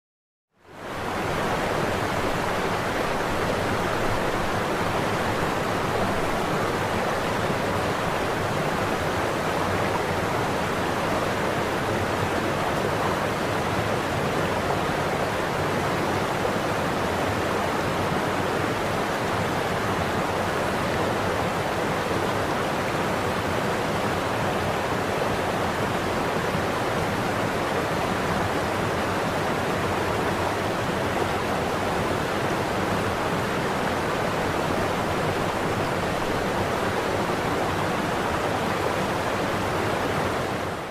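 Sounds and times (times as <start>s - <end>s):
waterfall rushing: 0.8s - 40.9s.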